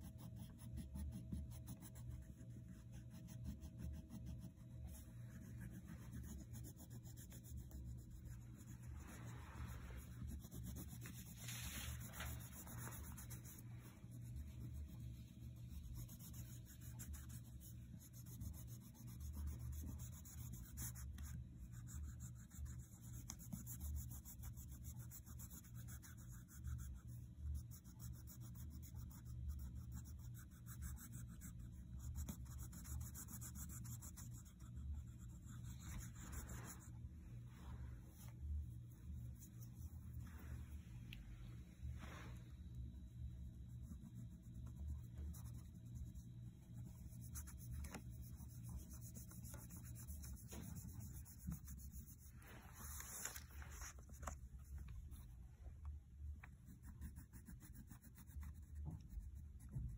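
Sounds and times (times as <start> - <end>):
crayon scratching on paper: 0.0 - 37.0, 43.4 - 55.3, 56.5 - 59.9.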